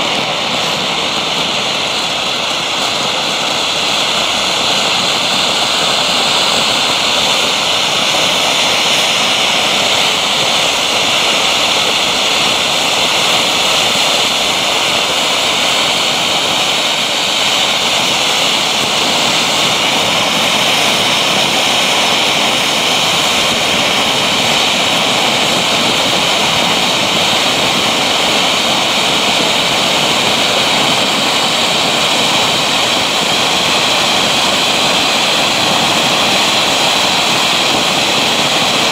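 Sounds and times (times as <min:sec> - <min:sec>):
firework fountain hissing: 0:00.0 - 0:38.9.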